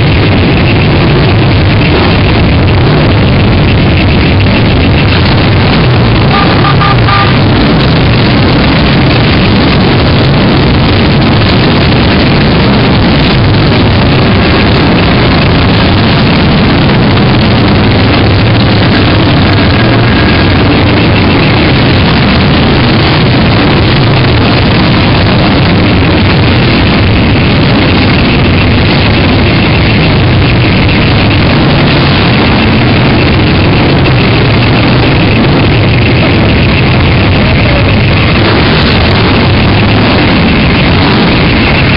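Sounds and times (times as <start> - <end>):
motorcycle engines passing: 0.0 - 41.9.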